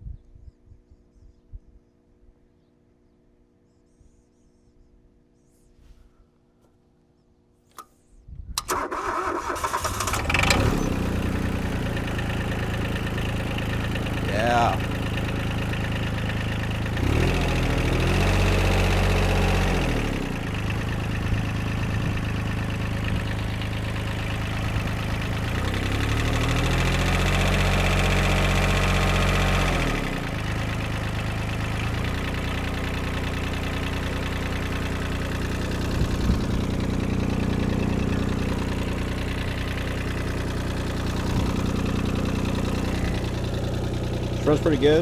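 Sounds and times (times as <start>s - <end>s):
diesel engine revving: 8.6s - 45.0s.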